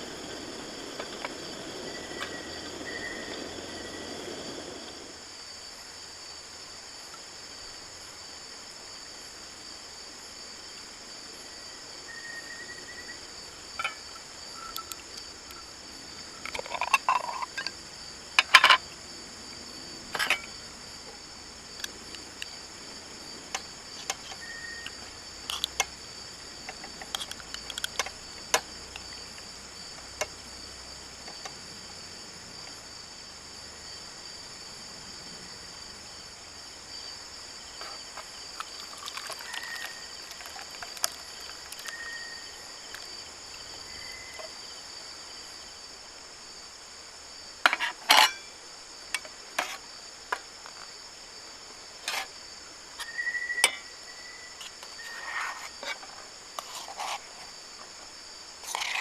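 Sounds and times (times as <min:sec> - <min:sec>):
crickets and insects chirring: 0:00.0 - 0:59.0.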